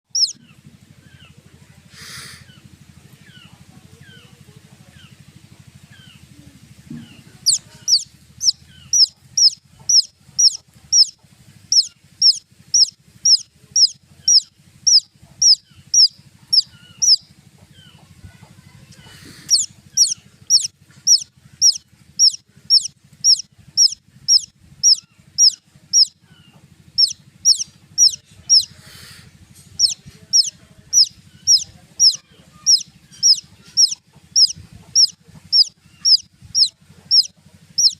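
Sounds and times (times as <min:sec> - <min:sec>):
baby chick peeping: 0:00.1 - 0:37.9.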